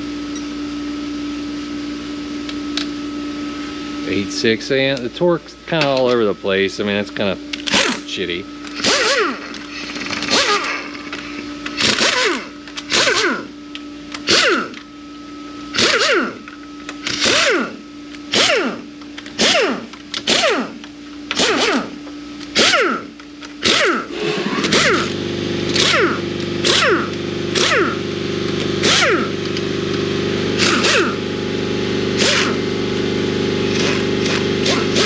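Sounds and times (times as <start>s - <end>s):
steady low hum: 0.0s - 35.0s
air gun whining: 5.7s - 14.9s, 15.7s - 35.0s.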